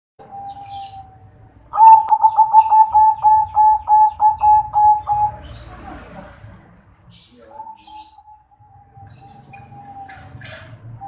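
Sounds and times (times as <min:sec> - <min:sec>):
small birds chirping: 0:00.2 - 0:11.0
dove cooing: 0:00.3 - 0:06.3, 0:07.4 - 0:11.0.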